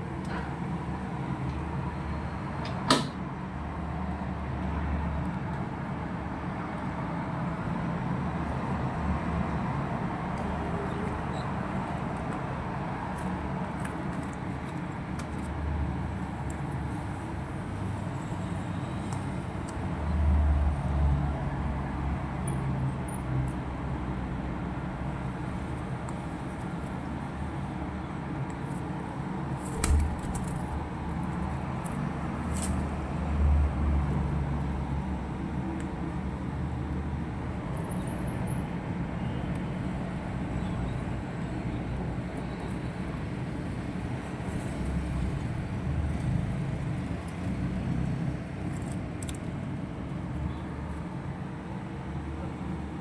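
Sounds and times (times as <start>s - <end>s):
outdoor background rumble: 5.6s - 52.9s.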